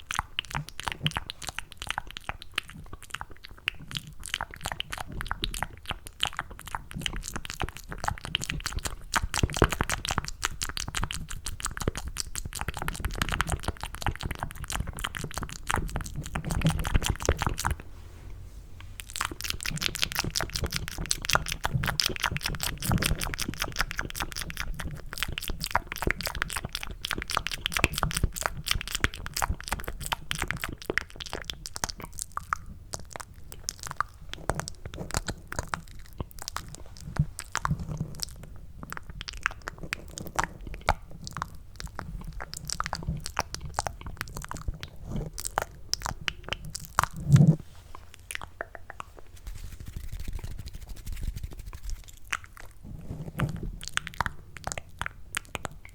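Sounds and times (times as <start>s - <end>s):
mouth clicks and smacks: 0.0s - 17.9s, 18.8s - 55.9s.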